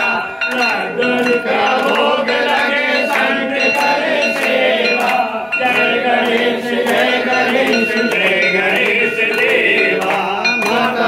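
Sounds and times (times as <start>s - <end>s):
crowd singing a hymn: 0.0s - 11.0s
hand claps: 0.0s - 11.0s.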